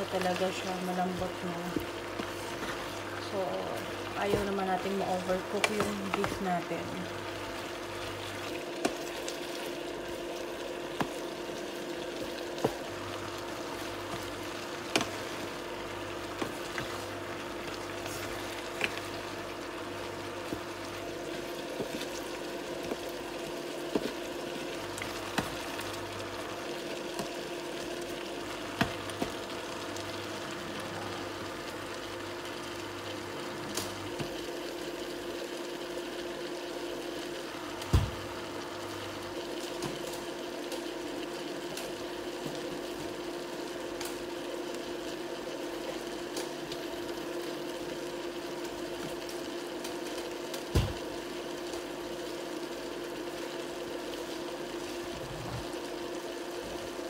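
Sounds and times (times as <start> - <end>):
electric cooktop humming: 0.0 - 57.0
food sizzling in a frying pan: 0.0 - 57.0.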